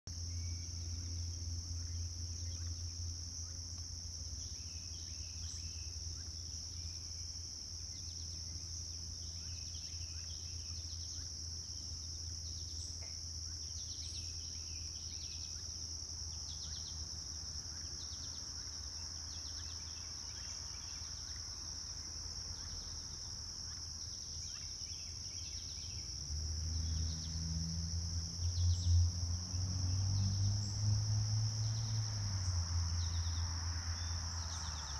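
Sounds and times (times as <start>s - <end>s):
insect chorus: 0.1s - 34.9s
short insect chirps: 0.1s - 34.9s.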